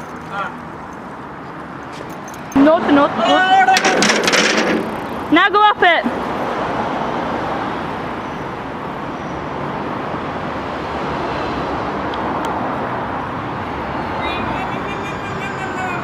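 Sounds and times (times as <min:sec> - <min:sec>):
motorway traffic rushing: 0:00.0 - 0:16.0.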